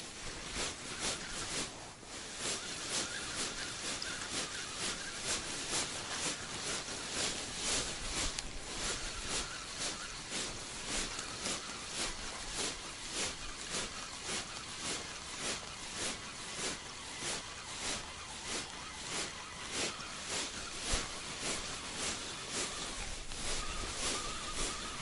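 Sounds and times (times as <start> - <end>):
faint steady whine: 0.0 - 25.0
rhythmic swishing strokes: 0.1 - 25.0.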